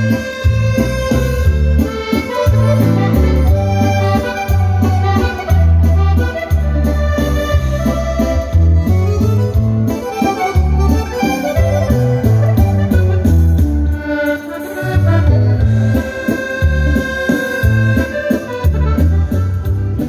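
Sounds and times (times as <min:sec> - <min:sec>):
button accordion dance tune: 0:00.0 - 0:20.0.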